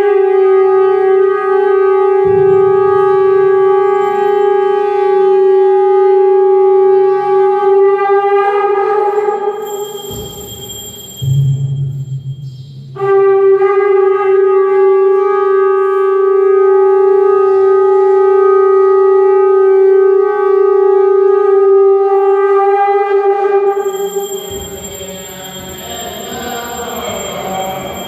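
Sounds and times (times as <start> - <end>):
conch shell blast: 0.0 - 28.0.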